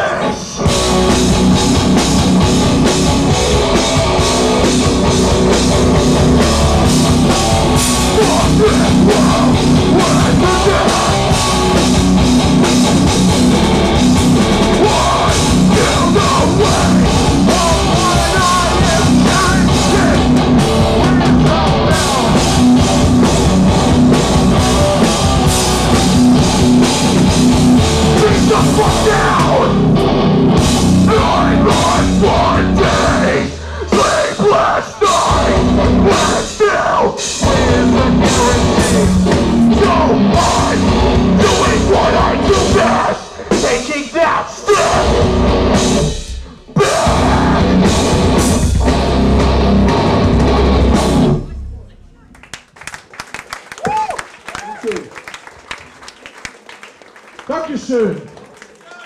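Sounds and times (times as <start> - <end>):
distorted electric guitars: 0.0 - 52.1
drum kit playing: 0.6 - 36.6, 37.2 - 44.0, 44.8 - 51.5.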